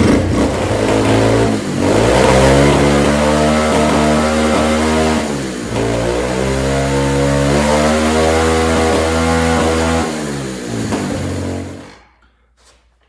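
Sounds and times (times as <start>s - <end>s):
motorbike engine revving: 0.0s - 12.1s.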